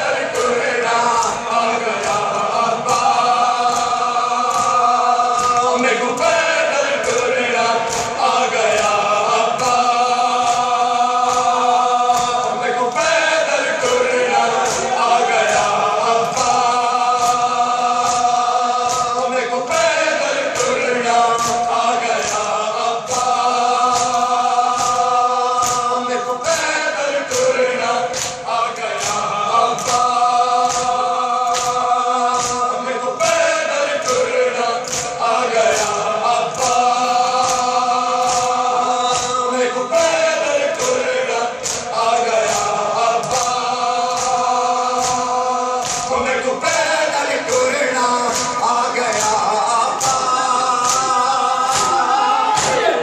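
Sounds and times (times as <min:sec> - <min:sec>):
men chanting in unison: 0:00.0 - 0:53.0.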